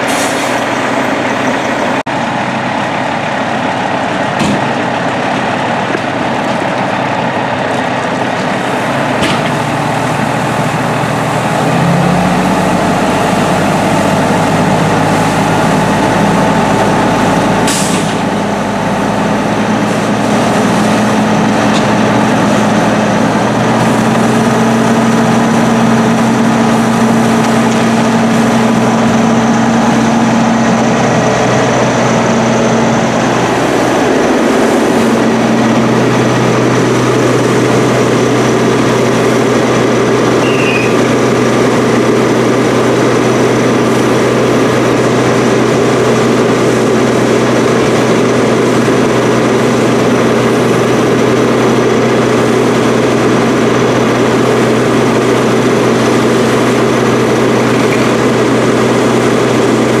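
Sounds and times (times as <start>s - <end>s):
fire engine pump humming: 0.0s - 60.0s
water spraying from hose: 9.6s - 31.7s, 33.2s - 60.0s.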